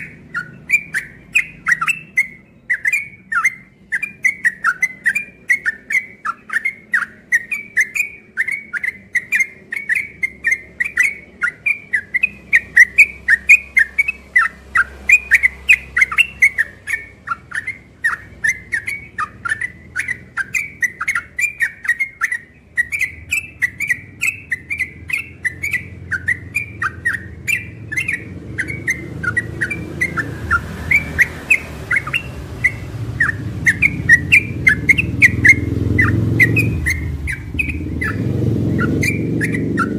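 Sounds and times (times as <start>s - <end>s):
bird whistling sharp notes: 0.0s - 39.9s.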